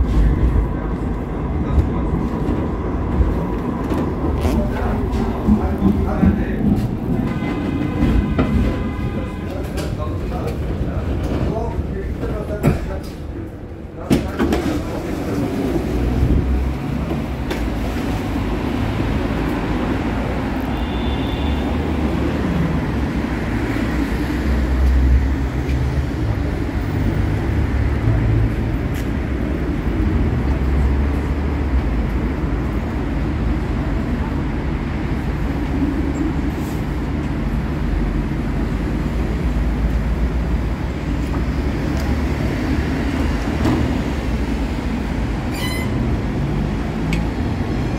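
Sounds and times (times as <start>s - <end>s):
street noise: 0.0s - 47.9s
tram rumbling at a stop: 0.0s - 47.9s.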